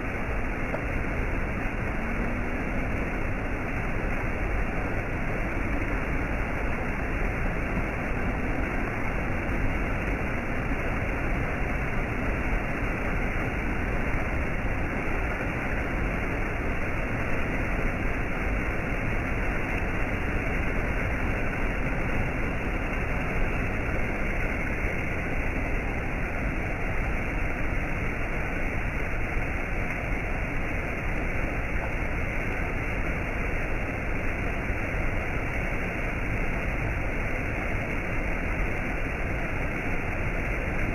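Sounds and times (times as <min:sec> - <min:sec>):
cascade of falling water: 0:00.0 - 0:40.9.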